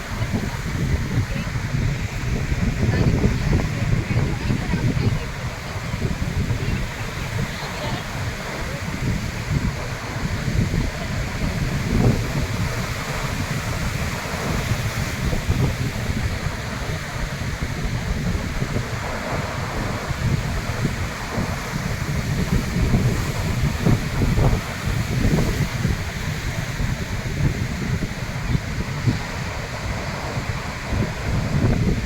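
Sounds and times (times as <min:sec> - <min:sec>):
surf breaking on shore: 0:00.0 - 0:32.0
wind buffeting microphone: 0:00.0 - 0:32.0.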